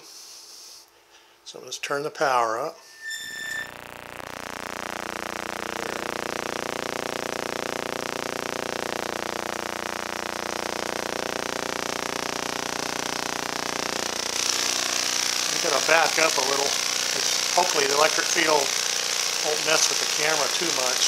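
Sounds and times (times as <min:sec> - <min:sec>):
tesla coil electrical buzz: 0:02.8 - 0:21.0
corona streamers hissing: 0:02.9 - 0:21.0.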